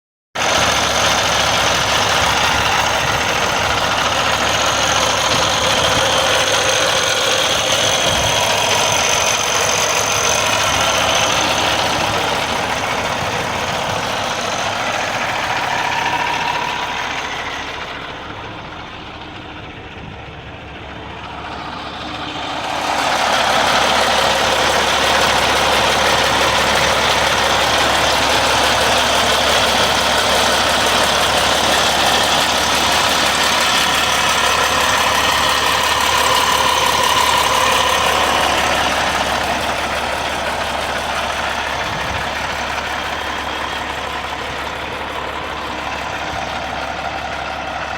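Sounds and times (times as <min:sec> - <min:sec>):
diesel engine idling: 0:00.4 - 0:47.9.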